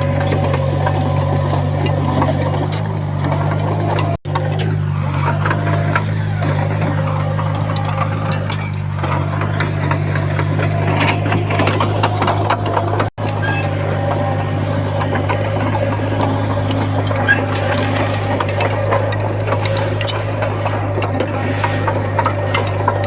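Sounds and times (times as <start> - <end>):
clattering clicks and rattles: 0.0 - 23.0
diesel engine running: 0.0 - 23.0.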